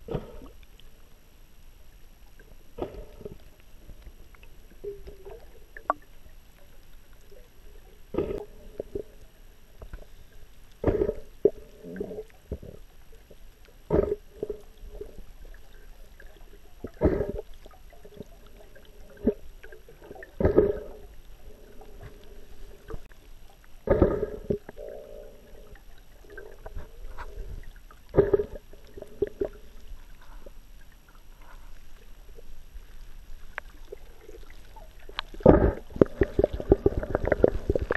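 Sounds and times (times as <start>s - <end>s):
low underwater gurgling: 0.0s - 1.0s, 2.3s - 37.9s.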